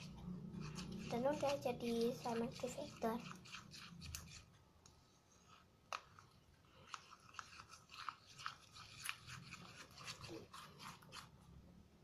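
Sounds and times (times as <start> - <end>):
utensil scraping and tapping container: 0.0 - 11.4.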